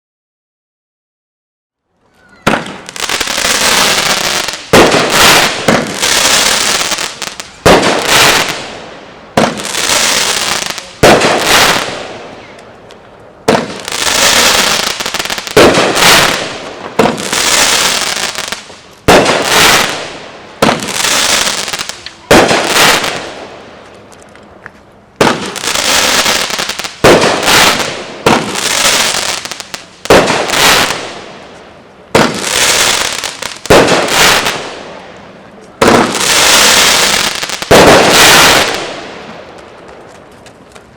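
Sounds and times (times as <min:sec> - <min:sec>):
firework shots banging: 0:02.4 - 0:12.3, 0:13.5 - 0:23.6, 0:25.2 - 0:31.4, 0:32.1 - 0:34.9, 0:35.8 - 0:40.4.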